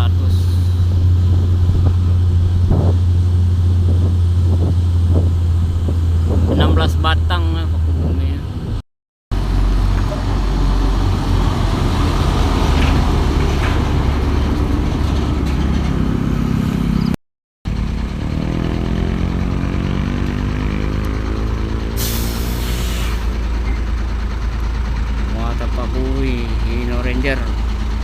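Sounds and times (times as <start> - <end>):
truck diesel engine under load: 0.0 - 28.0.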